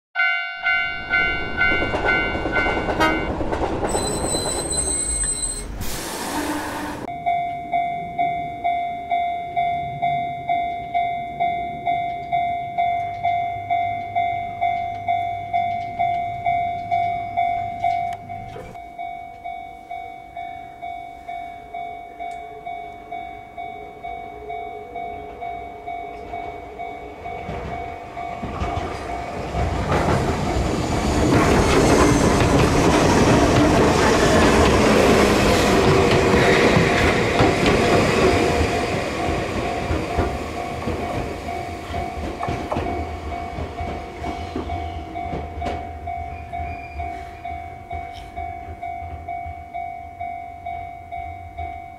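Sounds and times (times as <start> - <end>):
level-crossing warning bells clanging: 0.2 - 5.8, 7.0 - 51.9
train rumble and wheel clatter: 0.6 - 7.1, 8.6 - 18.8, 24.3 - 51.9.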